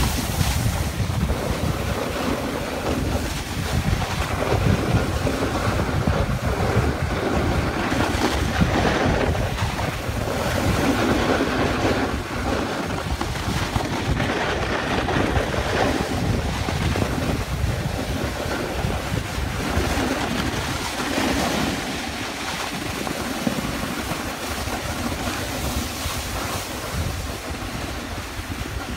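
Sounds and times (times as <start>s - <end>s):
snowboard carving on snow: 0.0s - 28.9s
wind buffeting microphone: 0.0s - 28.9s.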